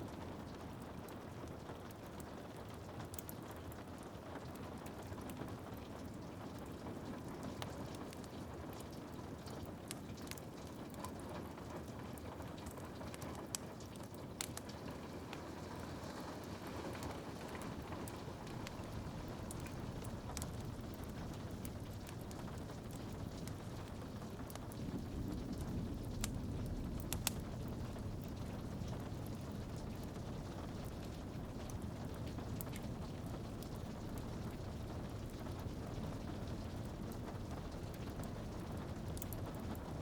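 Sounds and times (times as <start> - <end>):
rain on a window: 0.0 - 40.0
wood fire crackling and popping: 0.0 - 40.0.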